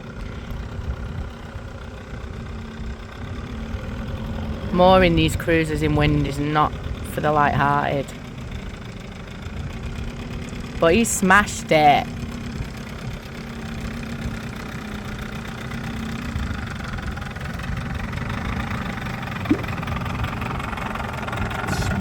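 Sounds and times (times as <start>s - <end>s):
boat engine idling: 0.0s - 22.0s.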